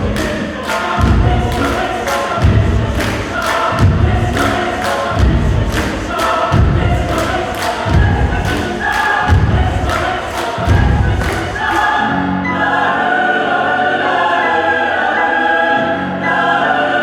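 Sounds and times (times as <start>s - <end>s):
mixed choir singing chant-like chords: 0.0s - 17.0s.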